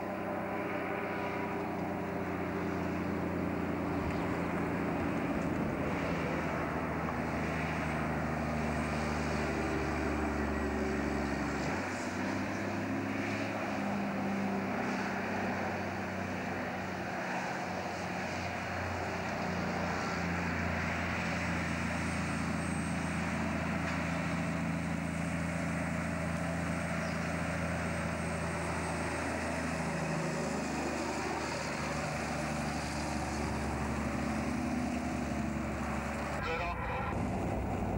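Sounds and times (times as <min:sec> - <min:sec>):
diesel truck engine climbing: 0:00.0 - 0:37.9.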